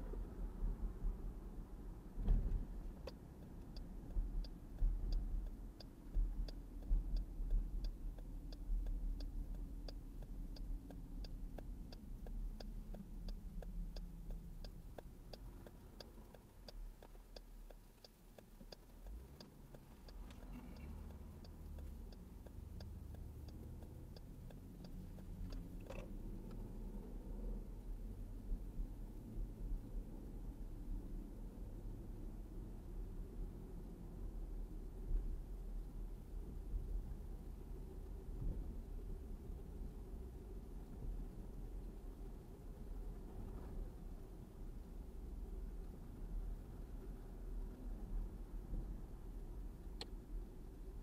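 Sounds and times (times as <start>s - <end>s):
car engine and road rumble: 0.0s - 51.0s
turn signal clicking: 2.2s - 51.0s.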